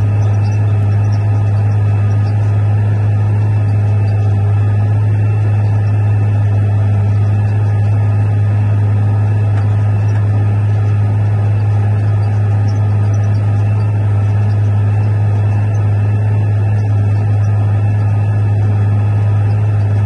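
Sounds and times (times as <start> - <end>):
tractor diesel engine droning: 0.0 - 20.0.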